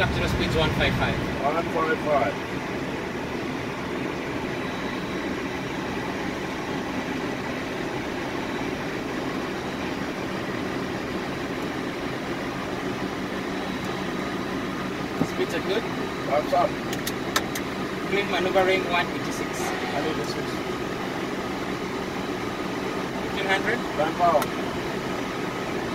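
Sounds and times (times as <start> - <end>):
faint high whine tones: 0.0 - 25.9
jet engine and airflow rush: 0.0 - 25.9.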